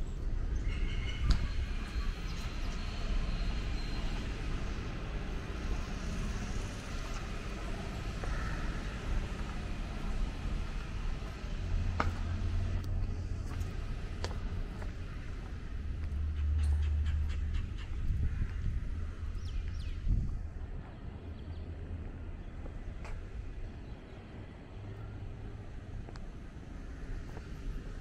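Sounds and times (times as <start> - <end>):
distant road traffic hum: 0.0 - 28.0.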